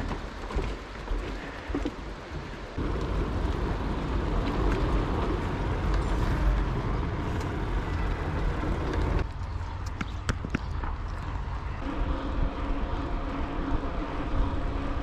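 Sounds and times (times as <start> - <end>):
mountain bike riding rumble: 0.0 - 15.0.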